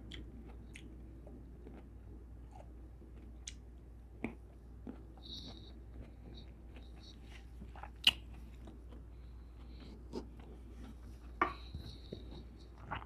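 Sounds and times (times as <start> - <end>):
person chewing juicy fruit: 0.0 - 13.0.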